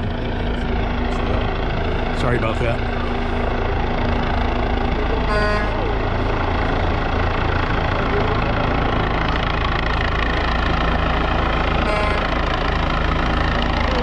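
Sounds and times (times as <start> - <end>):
helicopter hovering: 0.0 - 14.0.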